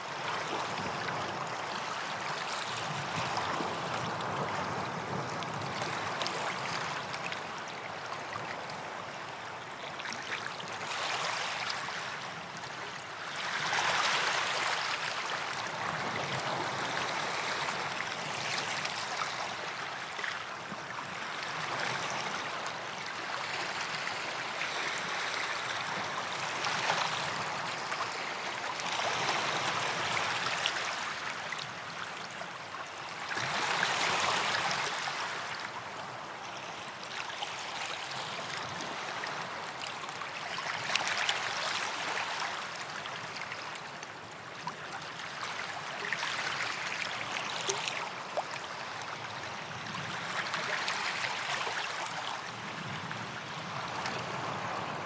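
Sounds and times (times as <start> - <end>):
small waves washing onto sand: 10.0 - 55.0.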